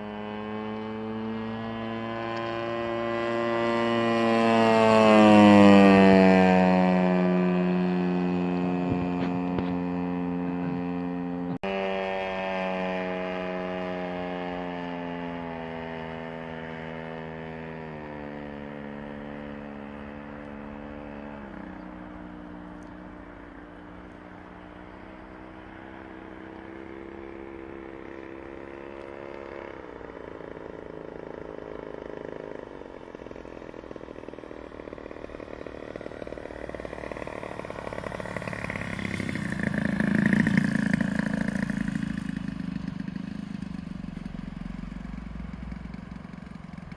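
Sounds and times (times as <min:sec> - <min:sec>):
model plane engine buzzing: 0:00.0 - 0:46.9.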